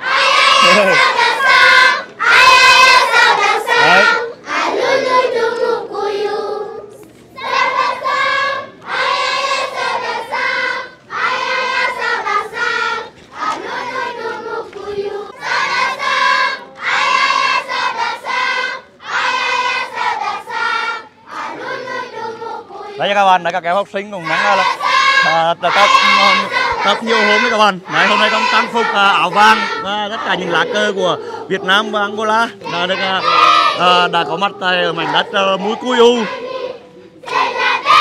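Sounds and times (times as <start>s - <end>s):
children's choir singing: 0.0s - 38.0s.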